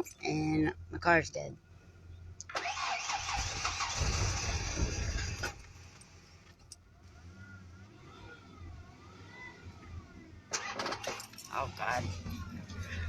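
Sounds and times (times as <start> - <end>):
car engine cranking by starter: 2.4 - 13.0.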